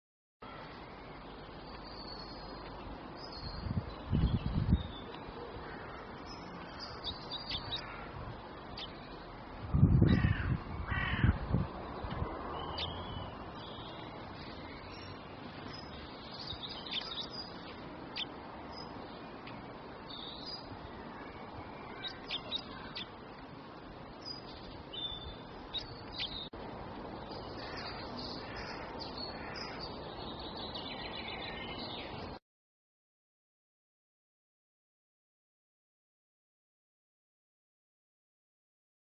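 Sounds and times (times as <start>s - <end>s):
songbirds chirping: 0.4s - 32.4s
steady background hiss: 0.5s - 32.4s.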